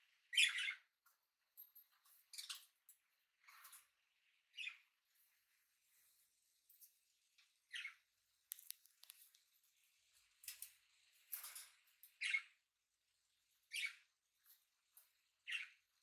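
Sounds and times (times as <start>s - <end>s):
parrots chirping faintly: 0.0s - 1.0s, 1.7s - 16.0s.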